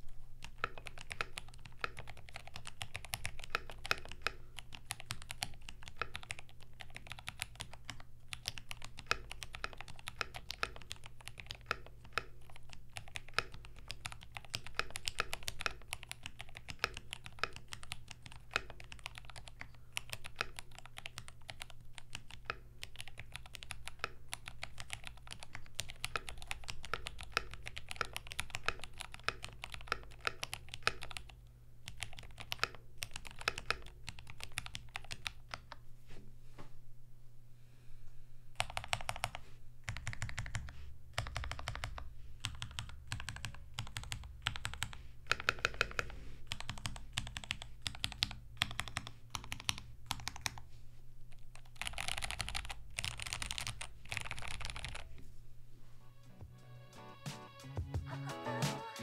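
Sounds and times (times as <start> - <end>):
steady low hum: 0.0 - 56.8
mechanical keyboard typing: 0.4 - 35.8, 38.6 - 50.6, 51.3 - 55.1.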